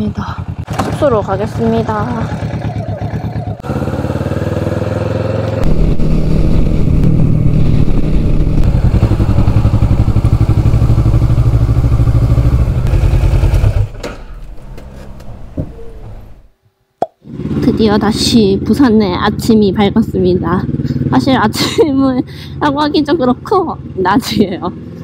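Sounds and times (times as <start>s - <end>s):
motorcycle engine revving: 0.0s - 16.6s, 17.2s - 25.0s.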